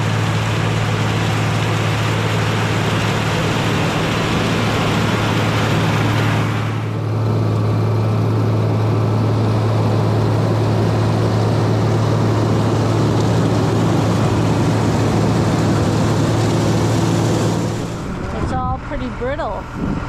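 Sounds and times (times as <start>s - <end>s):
corn picker mechanical noise: 0.0s - 20.0s
tractor engine hum: 0.0s - 20.0s.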